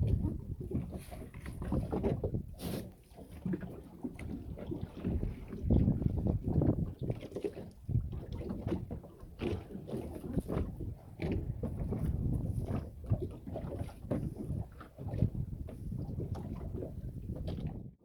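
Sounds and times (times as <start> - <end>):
wind buffeting microphone: 0.0 - 2.8, 3.4 - 18.0
water splashing against boat hull: 0.0 - 18.0.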